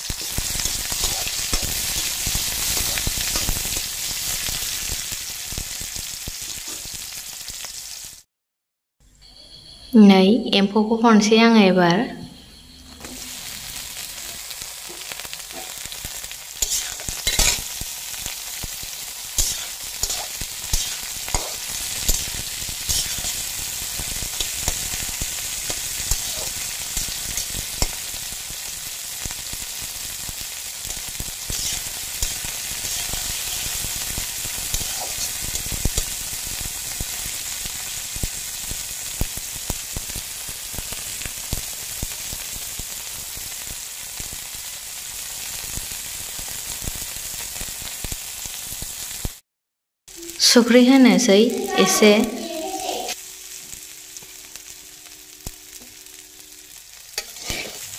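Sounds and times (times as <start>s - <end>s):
food sizzling in a wok: 0.0s - 8.3s, 12.4s - 49.4s, 50.1s - 57.9s.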